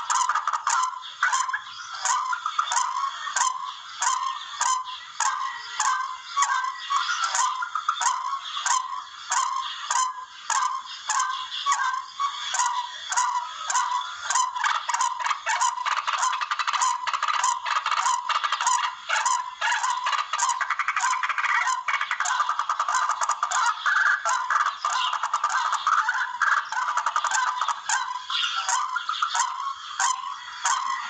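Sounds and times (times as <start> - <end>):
birds calling in harsh chorus: 0.0 - 31.0.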